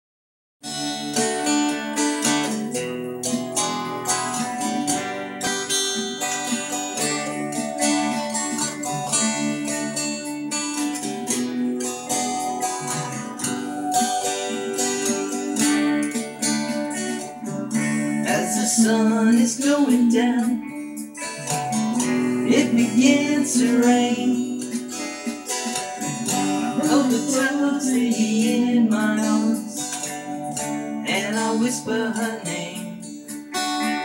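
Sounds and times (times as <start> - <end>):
acoustic guitar strumming: 0.6 - 34.0.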